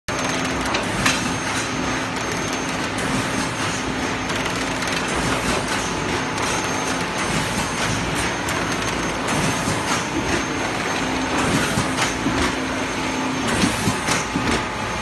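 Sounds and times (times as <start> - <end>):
machine clattering clicks: 0.1 - 10.4, 11.3 - 12.6, 13.4 - 14.7
machine humming: 0.1 - 15.0.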